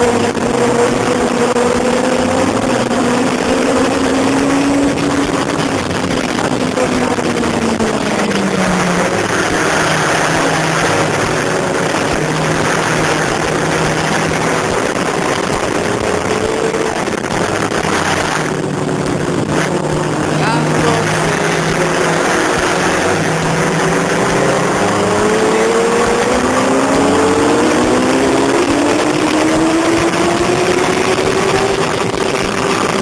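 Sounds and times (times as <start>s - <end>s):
motorcycle engine at speed: 0.0s - 33.0s
wind rushing on microphone: 0.0s - 33.0s.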